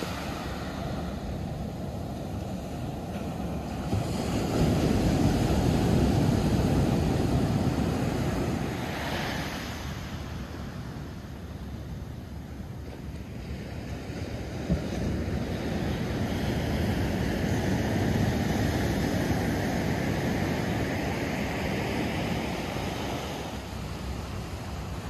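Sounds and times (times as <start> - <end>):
wind on microphone: 0.0 - 11.9, 12.8 - 25.0
ocean waves breaking: 0.0 - 25.0.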